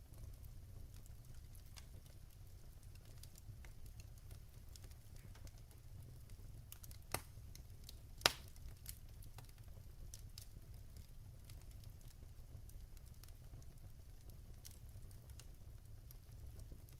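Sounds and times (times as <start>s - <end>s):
wood fire crackling: 0.0s - 16.9s
fire pops: 0.1s - 16.9s.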